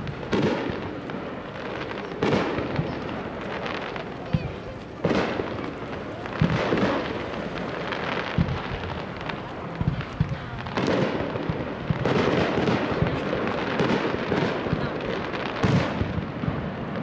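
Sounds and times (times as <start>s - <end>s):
crackling firework bursts: 0.0s - 17.0s.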